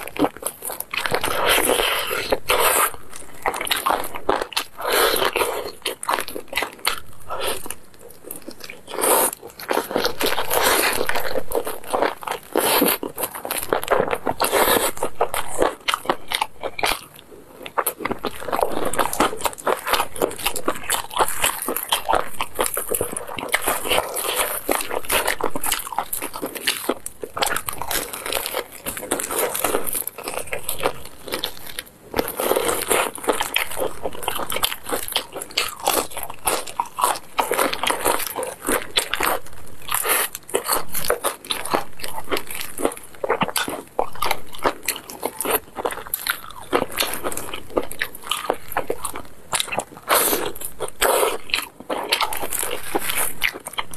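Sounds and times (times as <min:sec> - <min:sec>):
crunchy chewing: 0:00.0 - 0:53.9.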